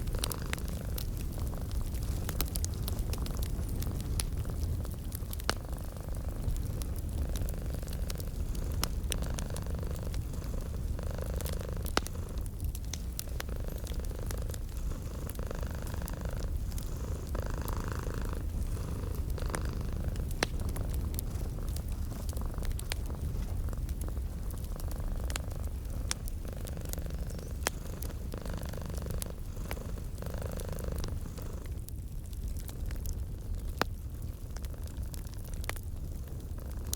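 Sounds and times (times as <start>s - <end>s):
cat purring: 0.0s - 31.9s
wood fire crackling: 0.0s - 36.9s.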